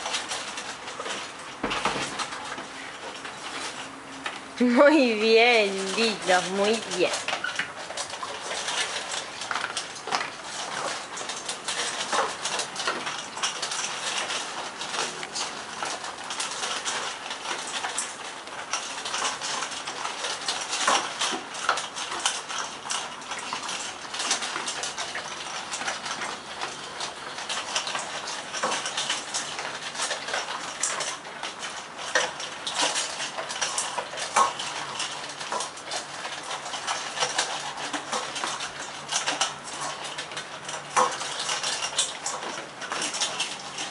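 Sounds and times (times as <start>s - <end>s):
dogs crunching dry kibble: 0.0s - 43.9s.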